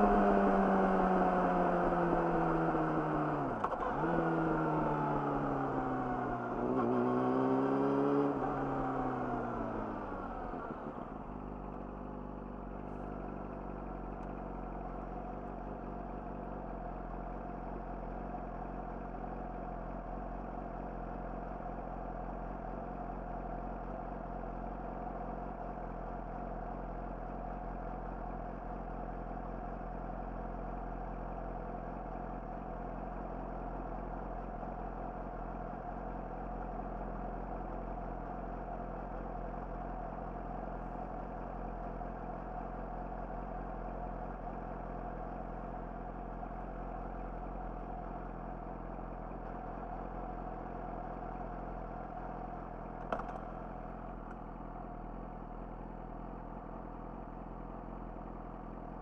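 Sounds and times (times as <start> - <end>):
motorcycle engine idling: 8.4 - 59.0.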